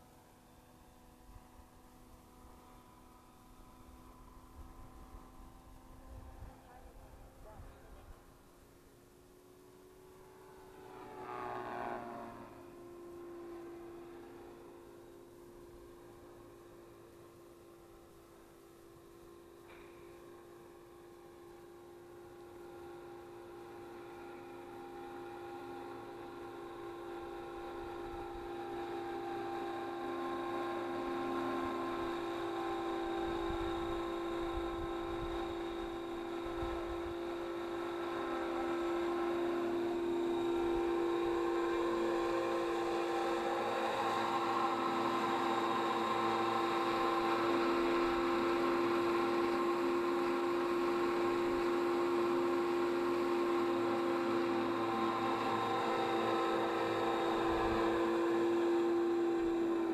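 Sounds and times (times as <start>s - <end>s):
rc helicopter motor whine: 0.0s - 59.9s.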